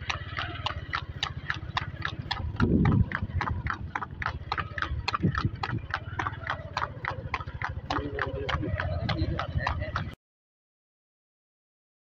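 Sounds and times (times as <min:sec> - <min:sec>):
cart rumbling: 0:00.0 - 0:10.2
hooves galloping on pavement: 0:00.0 - 0:10.2.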